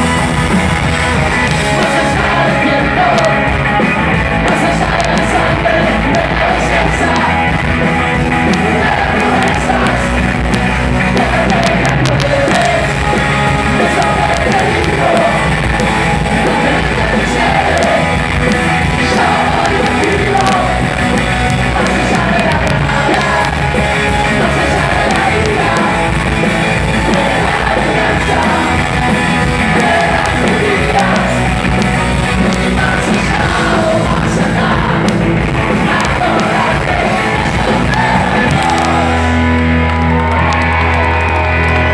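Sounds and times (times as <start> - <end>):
bass guitar: 0.0 - 41.9
drums: 0.0 - 41.9
electric guitar: 0.0 - 41.9
shouted lead vocals: 0.0 - 41.9.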